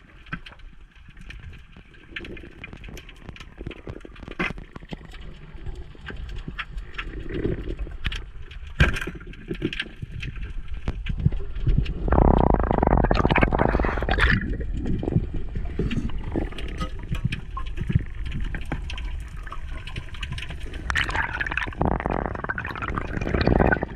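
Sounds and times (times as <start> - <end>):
underwater clicks and knocks: 0.2 - 23.9.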